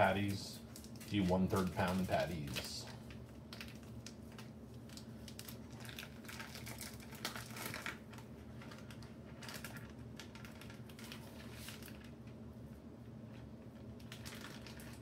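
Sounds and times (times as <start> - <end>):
plastic wrapper crinkling: 0.0 - 12.2, 13.3 - 15.0.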